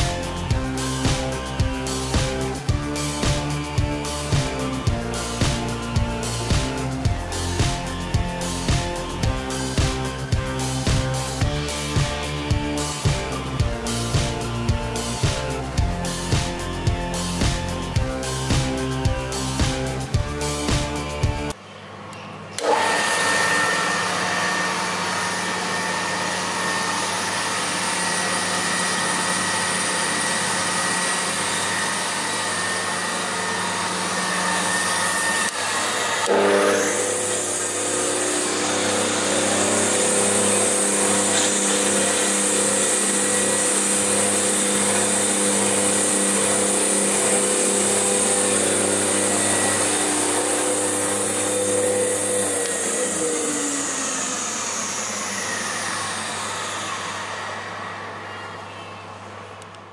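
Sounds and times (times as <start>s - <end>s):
woodworking machine motor humming: 0.0s - 21.6s, 22.6s - 59.0s.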